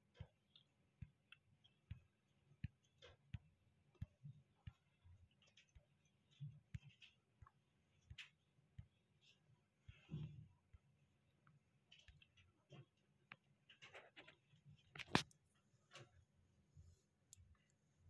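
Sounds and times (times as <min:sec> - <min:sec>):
faint irregular clicks and taps: 0:00.0 - 0:18.0.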